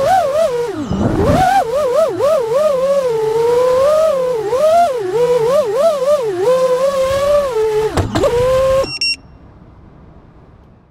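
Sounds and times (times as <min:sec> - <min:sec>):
drone motors whining: 0:00.0 - 0:09.2.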